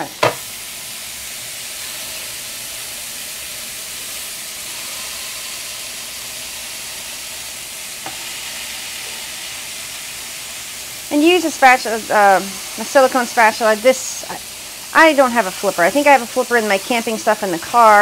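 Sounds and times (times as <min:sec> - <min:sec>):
meat patties sizzling on griddle: 0:00.0 - 0:18.0.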